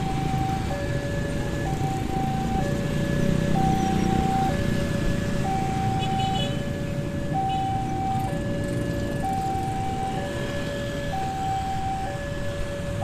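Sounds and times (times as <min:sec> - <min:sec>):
level crossing two-tone alarm: 0:00.0 - 0:04.8, 0:05.4 - 0:13.0
motorcycle engines rumbling: 0:00.0 - 0:13.0.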